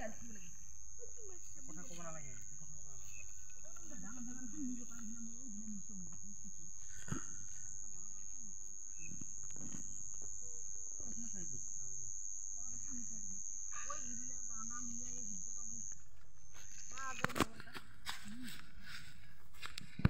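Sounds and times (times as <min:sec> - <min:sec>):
insects trilling: 0:00.0 - 0:19.2
faint voices: 0:00.0 - 0:20.0.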